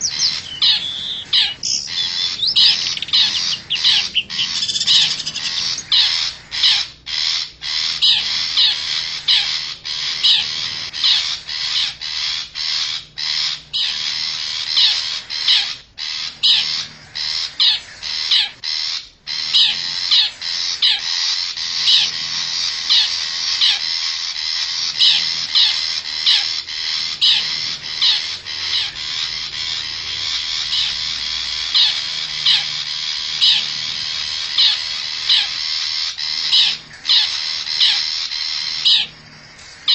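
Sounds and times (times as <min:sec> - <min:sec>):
shrike harsh chattering call: 0:00.0 - 0:39.9.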